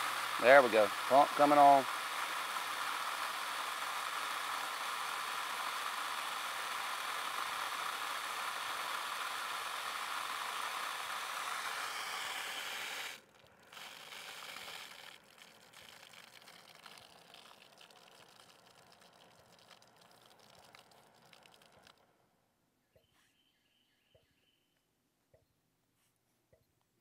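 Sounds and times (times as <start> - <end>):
water rushing through pipes: 0.0 - 22.0
well pump running: 0.0 - 22.1.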